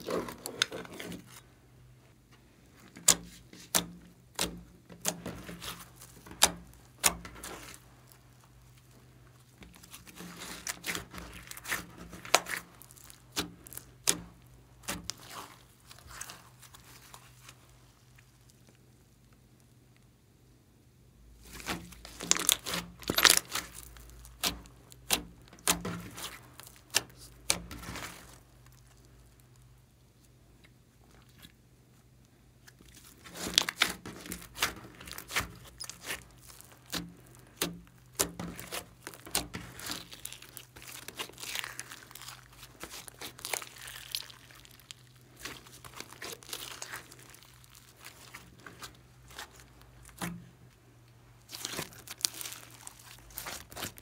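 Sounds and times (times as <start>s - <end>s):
hands squishing slime: 2.7s - 19.2s, 21.4s - 31.6s, 32.5s - 54.0s.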